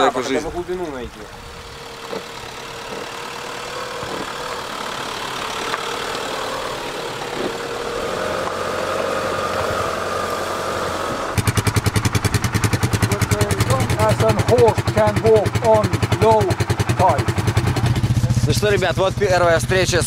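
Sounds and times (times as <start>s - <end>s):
diesel engine clatter at idle: 0.0s - 10.4s, 11.1s - 20.0s
diesel engine running: 0.0s - 20.0s.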